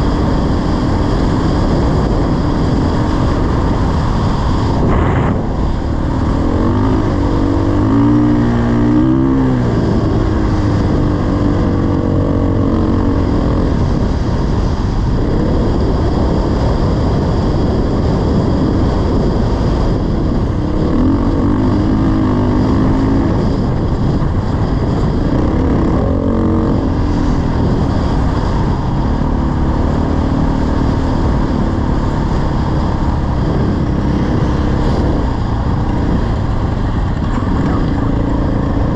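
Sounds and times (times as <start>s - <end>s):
dirt bike engine running: 0.0s - 38.9s
wind noise: 0.0s - 38.9s.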